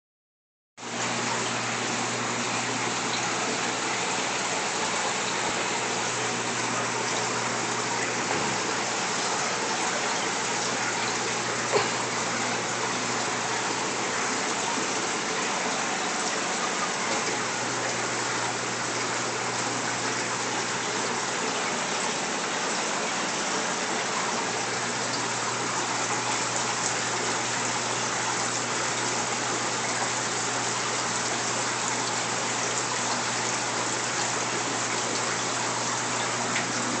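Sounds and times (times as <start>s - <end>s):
aquarium water rushing: 0.8s - 37.0s.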